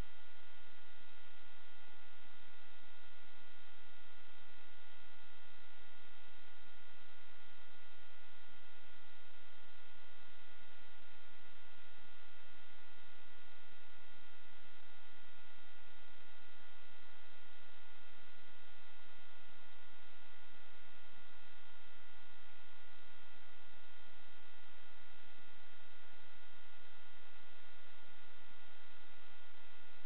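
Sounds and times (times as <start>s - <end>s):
electronic hum: 0.0s - 30.0s.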